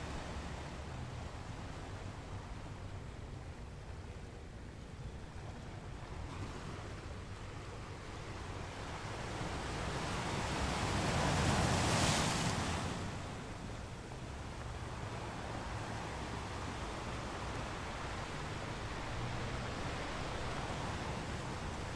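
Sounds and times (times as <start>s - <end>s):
waves washing on open water: 0.0s - 21.9s.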